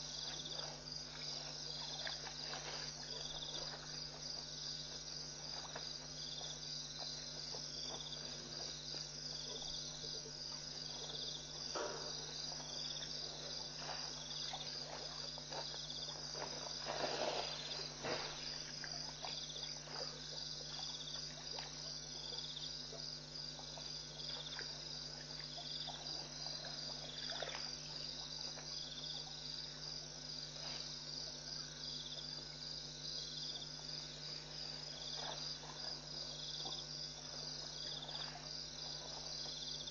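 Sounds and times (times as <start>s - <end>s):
night insects chirping: 0.0s - 39.9s
steady low hum: 0.0s - 39.9s.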